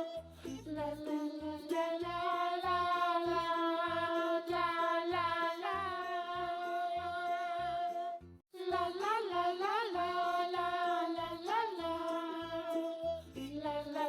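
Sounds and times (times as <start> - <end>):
person singing long notes: 0.0 - 14.0.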